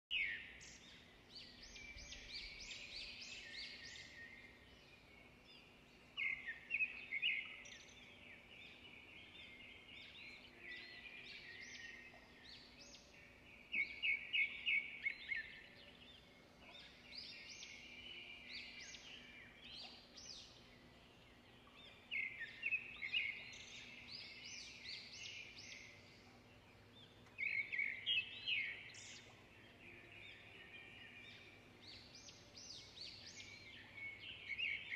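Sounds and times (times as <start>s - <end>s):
small birds chirping and twittering: 0.1s - 34.9s.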